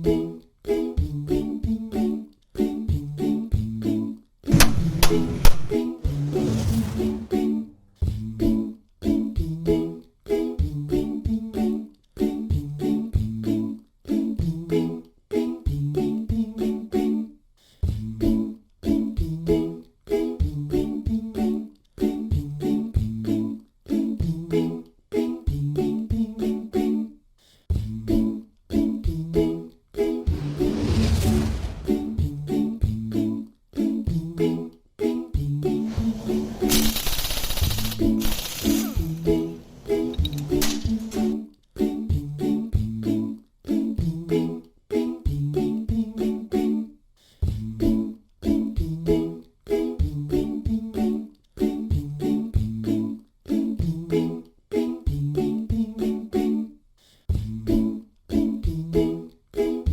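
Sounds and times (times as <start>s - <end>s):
layered a cappella voices: 0.0s - 59.9s.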